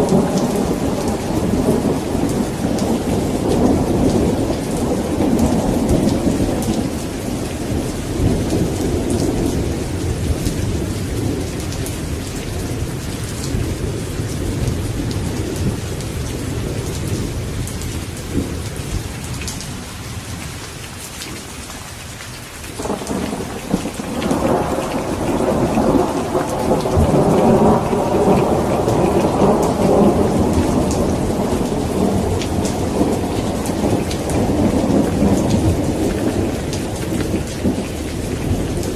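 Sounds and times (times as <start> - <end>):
rolling thunder: 0.0 - 19.4, 22.8 - 38.9
steady rain: 0.0 - 38.9.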